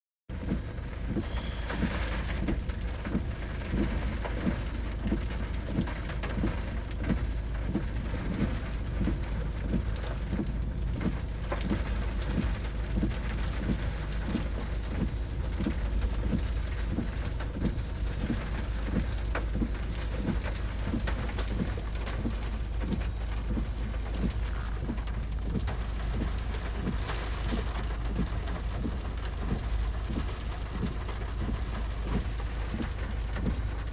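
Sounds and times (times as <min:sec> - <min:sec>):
steady rain falling: 0:00.3 - 0:33.9
soft regular tapping: 0:00.4 - 0:33.8.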